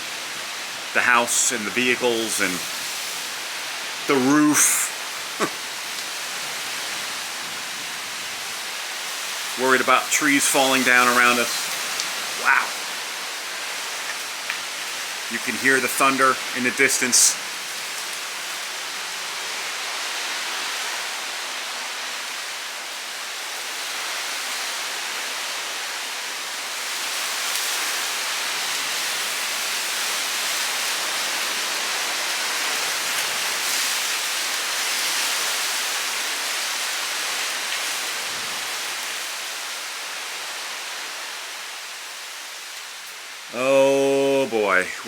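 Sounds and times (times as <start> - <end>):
rain and wind hissing: 0.0 - 45.0.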